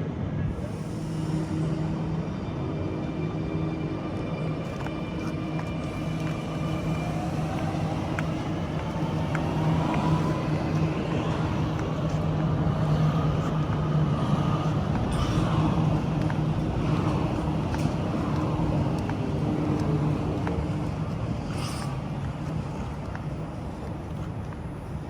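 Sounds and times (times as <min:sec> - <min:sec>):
train running noise: 0:00.0 - 0:25.0
low hum: 0:00.5 - 0:25.0.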